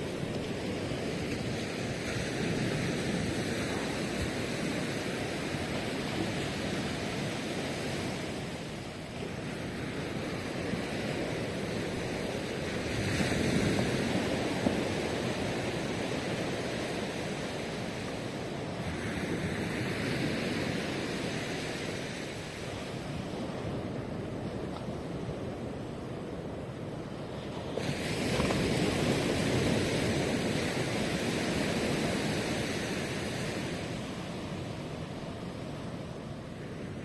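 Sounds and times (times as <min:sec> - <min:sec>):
ocean surf washing ashore: 0:00.0 - 0:37.0.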